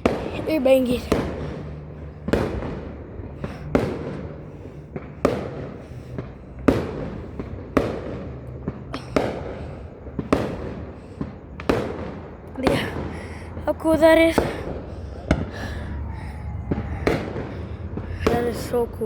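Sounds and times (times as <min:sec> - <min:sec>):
small fireworks pops: 0:00.0 - 0:15.7, 0:16.7 - 0:19.0
fireworks bangs: 0:00.0 - 0:19.0.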